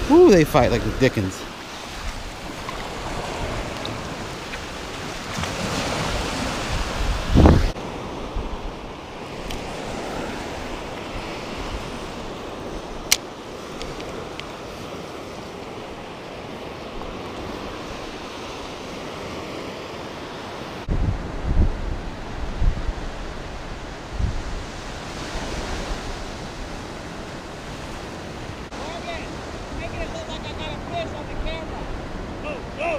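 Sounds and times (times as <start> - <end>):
wind buffeting microphone: 0.0 - 19.3, 20.8 - 32.8
ocean surf washing ashore: 0.0 - 32.9.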